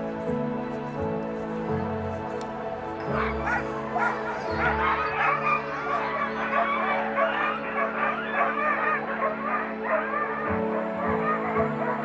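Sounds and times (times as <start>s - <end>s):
background music: 0.0s - 12.0s
sled dogs barking and yelping: 0.0s - 12.0s.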